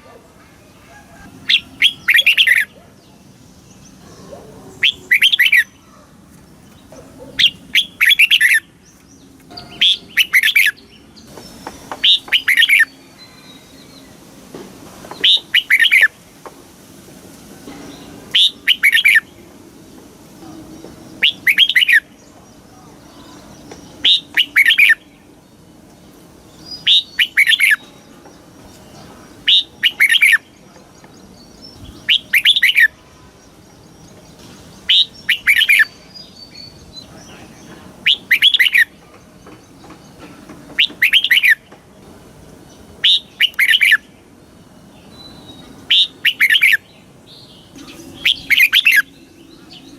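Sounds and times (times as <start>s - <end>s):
bird singing repeated phrase: 0.6s - 6.1s, 6.7s - 14.1s, 15.1s - 16.2s, 17.8s - 19.5s, 20.4s - 25.6s, 26.5s - 41.8s, 42.6s - 49.9s.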